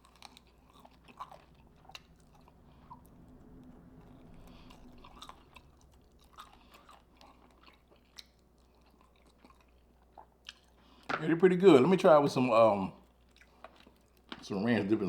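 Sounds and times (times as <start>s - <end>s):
chewing fried chicken: 0.0s - 14.8s.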